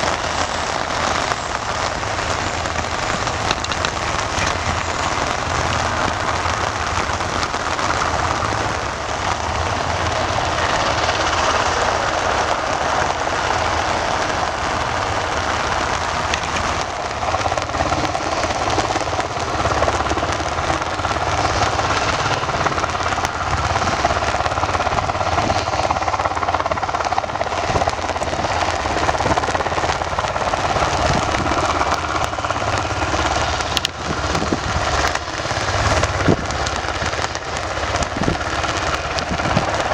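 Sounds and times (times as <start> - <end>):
helicopter engines and rotor: 0.0 - 39.9
rain falling: 0.0 - 39.9.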